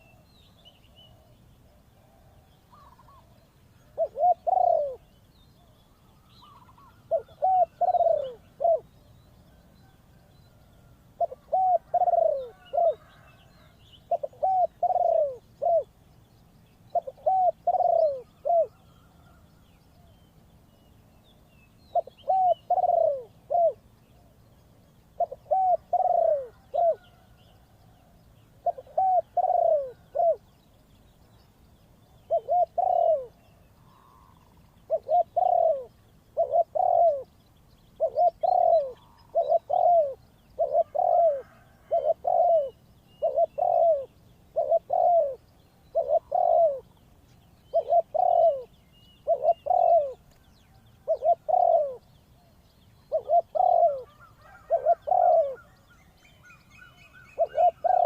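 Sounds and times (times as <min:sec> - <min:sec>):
small birds chirping: 0:00.0 - 0:58.0
dove cooing: 0:01.0 - 0:08.9, 0:09.8 - 0:16.0, 0:16.9 - 0:20.2, 0:21.9 - 0:24.3, 0:25.1 - 0:27.7, 0:28.6 - 0:30.6, 0:32.1 - 0:37.4, 0:38.0 - 0:47.0, 0:47.7 - 0:52.1, 0:53.0 - 0:58.0.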